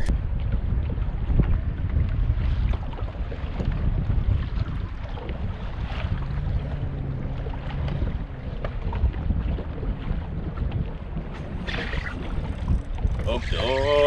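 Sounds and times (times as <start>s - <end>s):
water lapping around boat: 0.0s - 14.0s
wind buffeting microphone: 0.0s - 14.0s.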